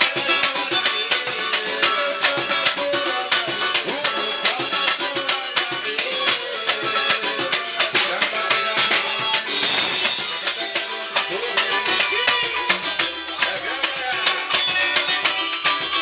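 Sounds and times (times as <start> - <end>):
upbeat music with drums: 0.0 - 16.0.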